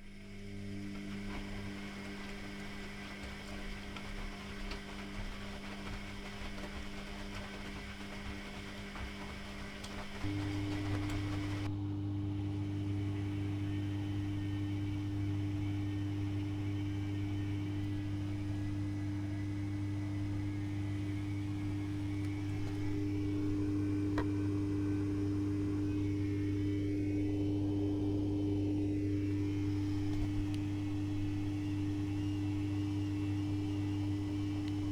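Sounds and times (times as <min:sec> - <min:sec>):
washing machine humming: 0:00.0 - 0:34.9.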